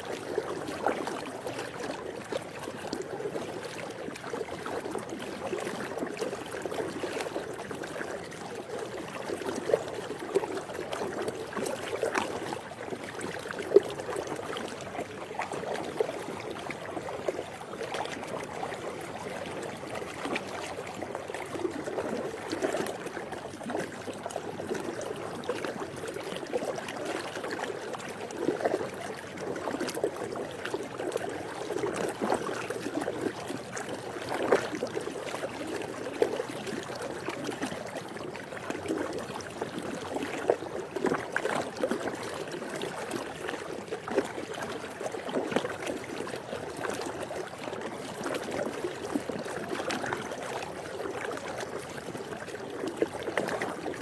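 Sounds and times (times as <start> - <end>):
pool water lapping and gurgling: 0.0 - 54.0.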